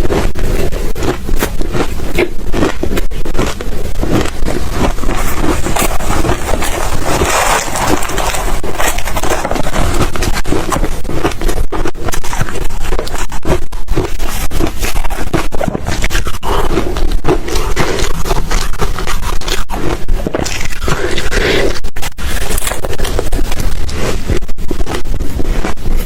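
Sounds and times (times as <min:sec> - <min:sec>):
ice being chewed: 0:00.0 - 0:26.0.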